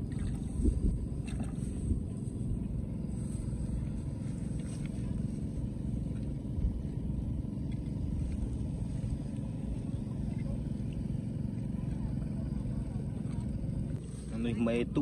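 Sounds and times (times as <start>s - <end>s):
motor running: 0.0s - 15.0s.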